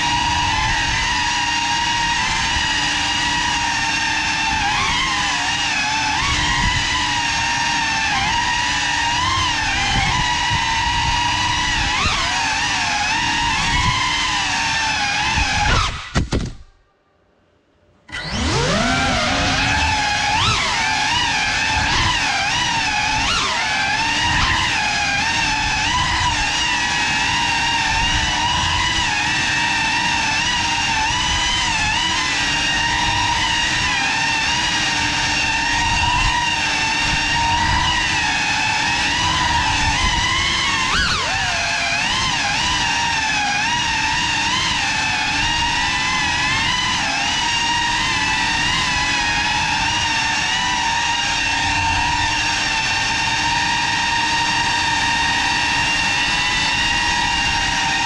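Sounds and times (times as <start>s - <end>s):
drone motors whining: 0.0s - 16.6s, 18.1s - 58.0s.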